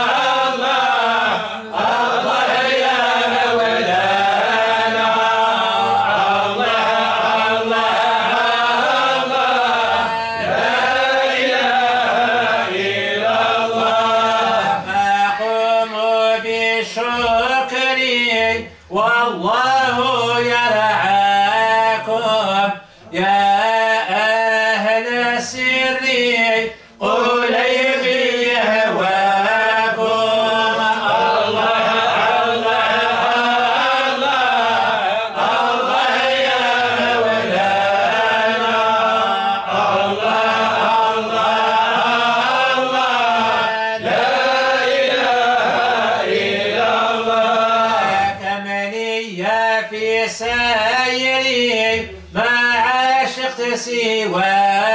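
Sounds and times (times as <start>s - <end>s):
man chanting: 0.0s - 54.9s.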